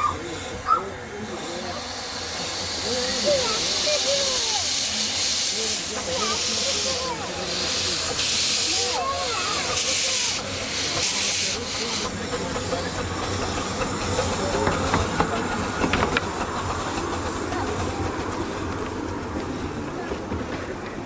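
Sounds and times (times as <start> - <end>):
steam hissing in pulses: 0.0 - 20.3
steam locomotive rumble: 0.0 - 21.0.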